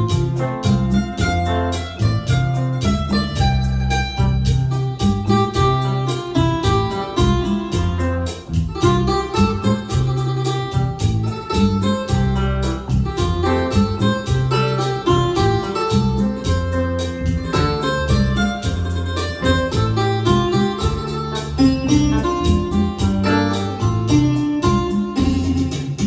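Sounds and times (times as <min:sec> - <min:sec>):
bass line: 0:00.0 - 0:26.0
keyboard melody: 0:00.0 - 0:26.0
steady beat: 0:00.0 - 0:26.0.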